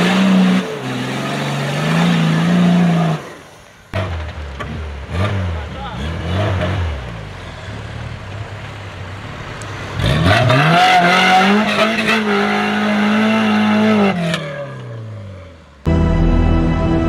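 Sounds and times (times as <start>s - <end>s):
engine revving in mud: 0.0s - 15.9s.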